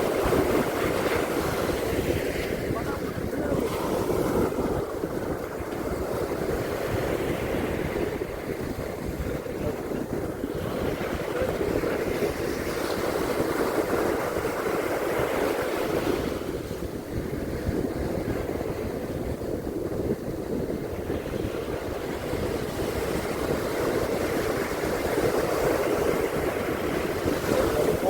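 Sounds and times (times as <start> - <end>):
ocean surf washing onto beach: 0.0 - 28.0
wind buffeting microphone: 0.0 - 28.0.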